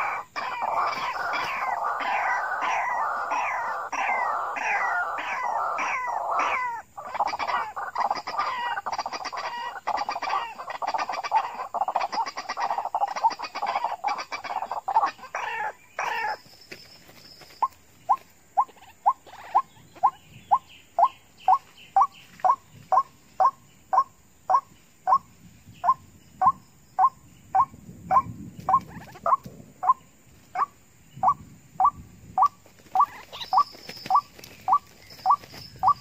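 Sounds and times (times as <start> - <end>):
raucous croaking bird chorus: 0.0 - 36.0.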